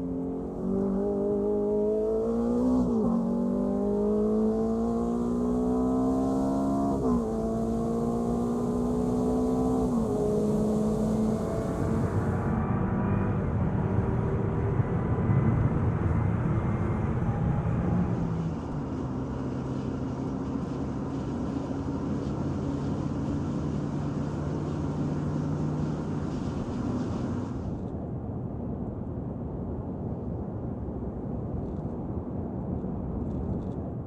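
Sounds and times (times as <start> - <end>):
road rumble: 0.0 - 34.0.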